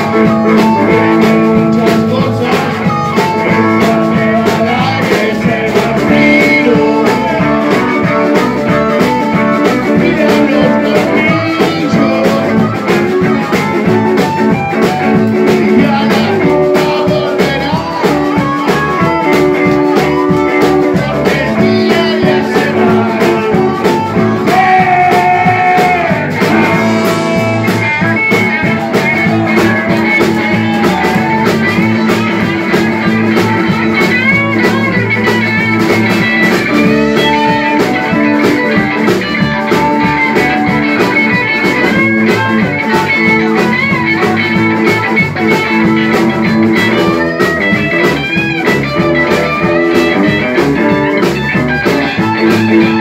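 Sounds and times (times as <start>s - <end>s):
drum kit: 0.0s - 53.0s
electric and acoustic guitars: 0.0s - 53.0s.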